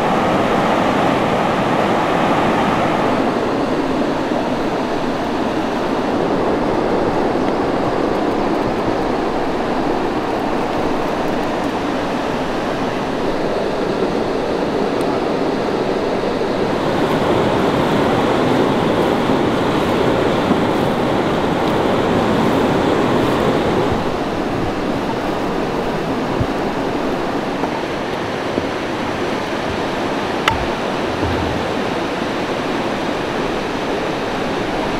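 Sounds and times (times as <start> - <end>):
rushing stream water: 0.0 - 34.9.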